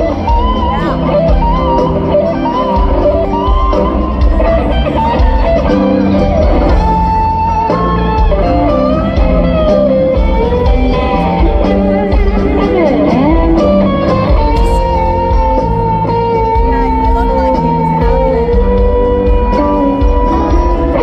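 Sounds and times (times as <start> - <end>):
electric guitar solo: 0.0 - 21.0
live rock band playing: 0.0 - 21.0.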